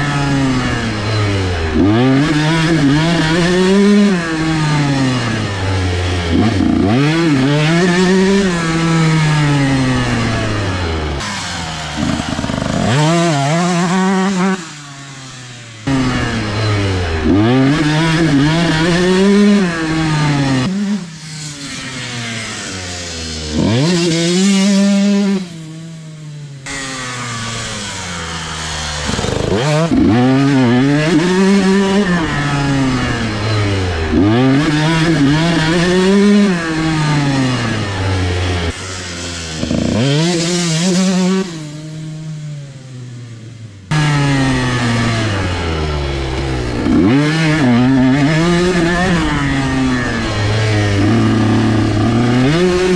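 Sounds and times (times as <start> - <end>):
two-stroke motorcycle engines revving: 0.0 - 52.9.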